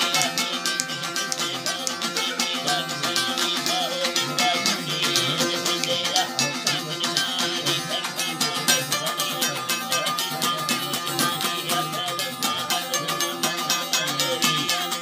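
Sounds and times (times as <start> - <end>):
plucked lutes: 0.0 - 15.0
sustained drone tones: 0.0 - 15.0.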